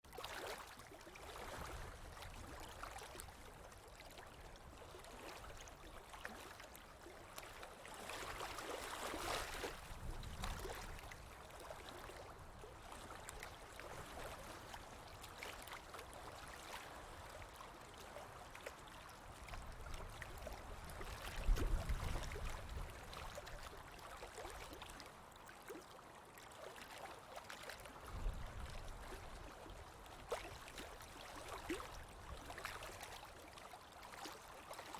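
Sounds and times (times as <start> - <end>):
stream water flowing: 0.1 - 34.9.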